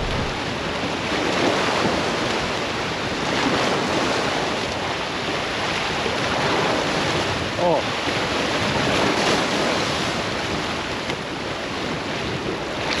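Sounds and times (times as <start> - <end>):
sea waves breaking over rocks: 0.0 - 13.0.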